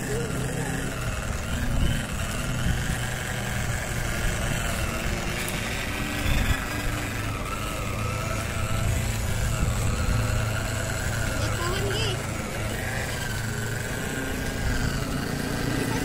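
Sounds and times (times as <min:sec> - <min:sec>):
small electric motor drone and whine: 0:00.0 - 0:16.0.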